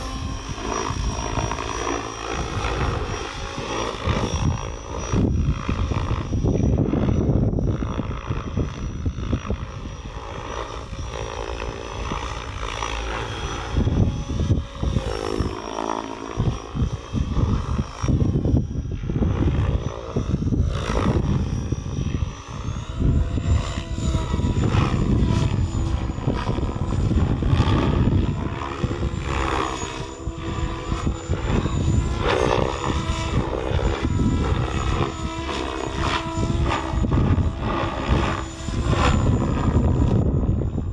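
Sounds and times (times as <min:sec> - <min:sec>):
electric motor whine: 0:00.0 - 0:40.9
helicopter rotor blades chopping: 0:00.0 - 0:40.9.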